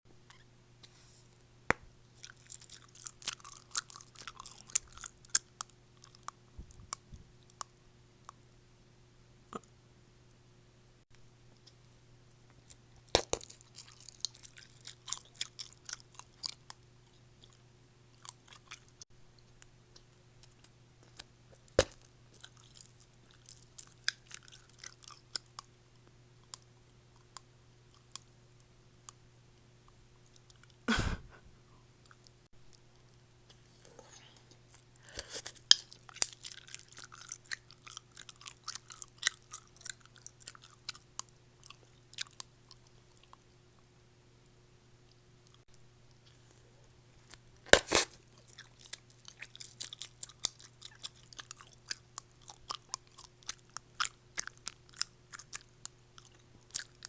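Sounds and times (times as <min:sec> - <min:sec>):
faint steady hum: 0:00.1 - 0:57.0.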